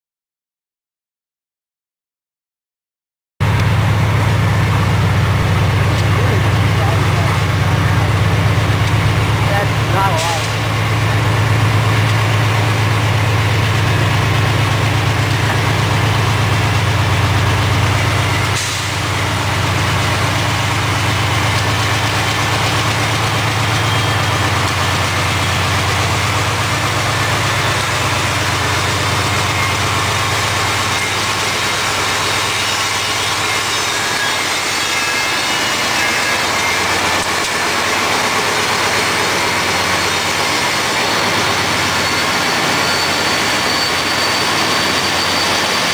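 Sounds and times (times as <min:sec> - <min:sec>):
locomotive engines droning: 0:03.4 - 0:45.9
wheels rumbling on rail: 0:03.4 - 0:45.9.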